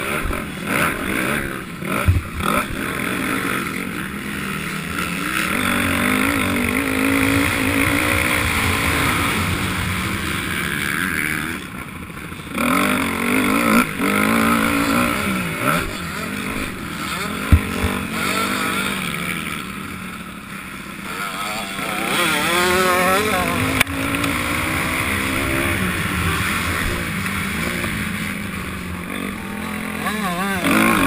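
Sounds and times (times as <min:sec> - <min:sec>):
motocross bike engine revving: 0:00.0 - 0:31.0.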